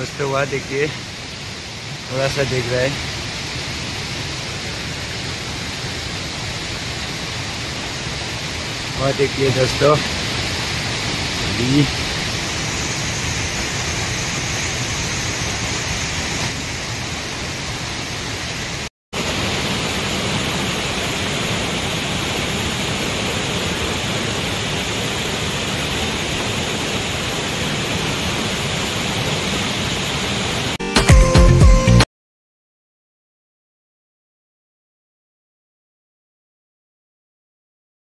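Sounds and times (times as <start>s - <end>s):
waterfall rushing: 0.0s - 30.8s.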